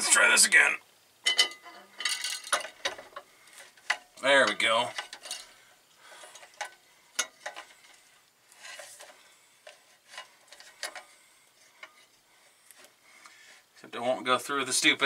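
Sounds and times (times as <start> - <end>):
soft metal scraping: 1.4 - 13.8.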